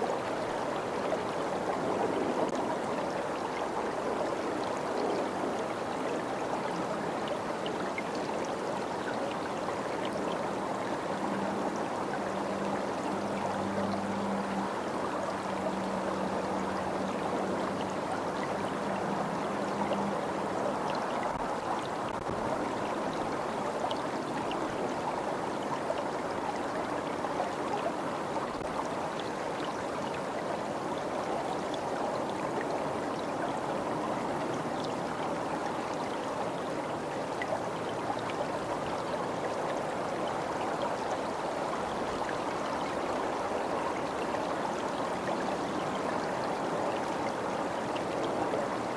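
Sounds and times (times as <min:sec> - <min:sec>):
stream flowing: 0:00.0 - 0:48.9.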